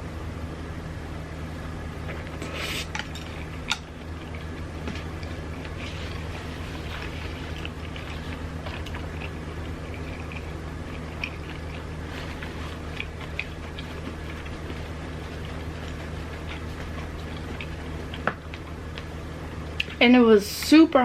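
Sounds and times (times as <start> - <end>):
steady low hum: 0.0 - 21.0
close chewing mouth sounds: 2.2 - 20.0.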